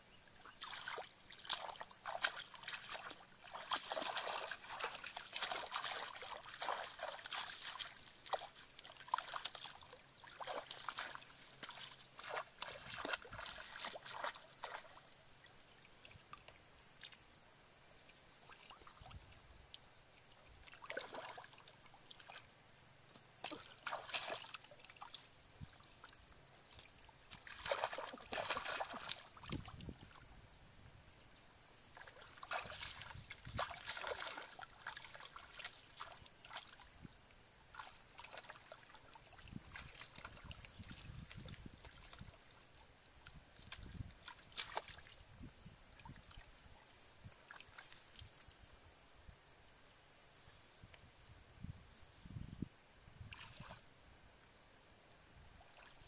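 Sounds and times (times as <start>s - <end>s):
muddy water splashing: 0.4s - 17.3s, 18.3s - 30.3s, 31.9s - 48.4s, 53.2s - 53.8s.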